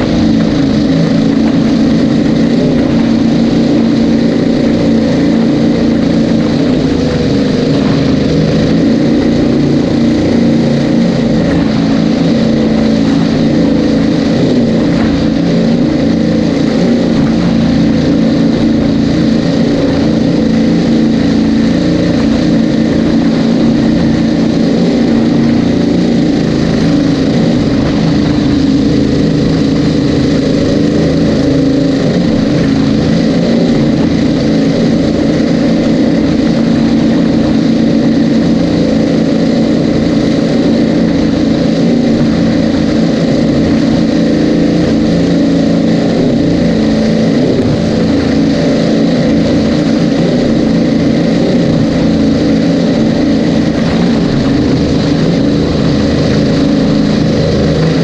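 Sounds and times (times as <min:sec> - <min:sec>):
powerboat engines running loud: 0:00.0 - 0:58.0.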